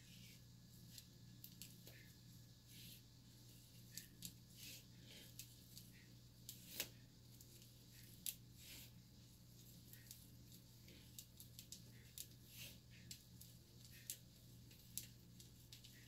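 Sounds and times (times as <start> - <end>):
hair rustling between fingers: 0.0 - 16.0.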